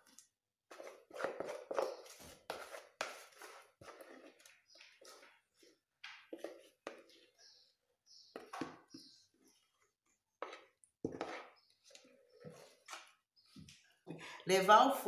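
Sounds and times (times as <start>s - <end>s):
spatula scraping a mixing bowl: 0.0s - 13.8s.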